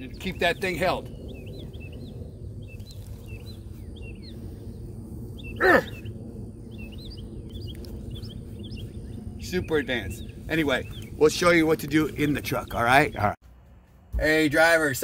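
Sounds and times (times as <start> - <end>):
low background rumble: 0.0 - 14.4
small birds chirping: 0.0 - 15.0.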